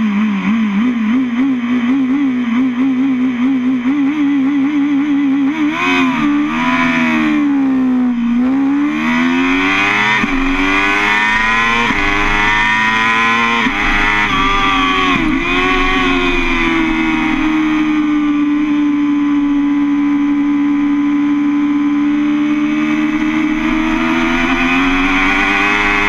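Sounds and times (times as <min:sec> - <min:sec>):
motorcycle engine revving and accelerating: 0:00.0 - 0:26.0.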